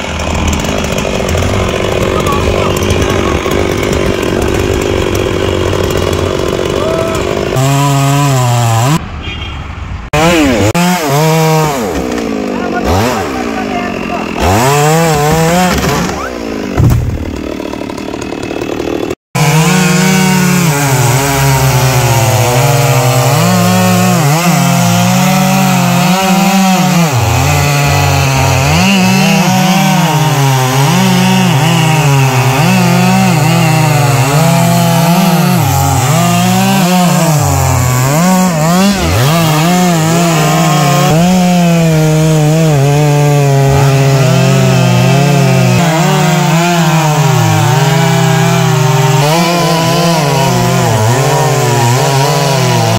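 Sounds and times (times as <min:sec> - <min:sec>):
chainsaw cutting wood: 0:00.0 - 0:09.0, 0:10.1 - 0:52.9.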